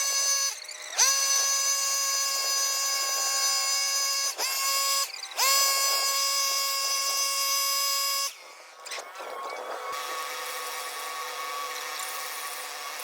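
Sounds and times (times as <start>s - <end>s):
power tool motor whining: 0.0s - 13.0s.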